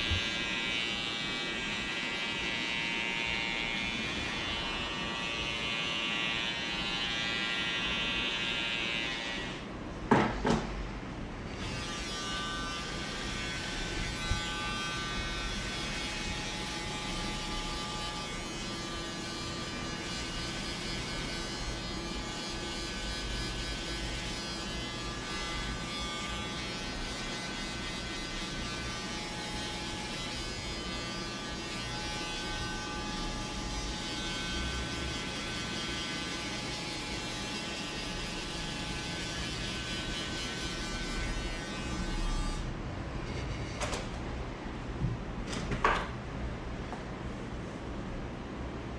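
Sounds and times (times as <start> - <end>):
electric trimmer buzzing: 0.0 - 9.7, 11.5 - 42.7.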